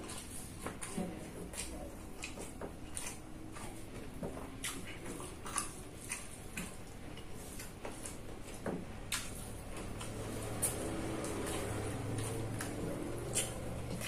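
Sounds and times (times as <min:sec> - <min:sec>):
chewing with wet mouth clicks: 0:00.0 - 0:14.0.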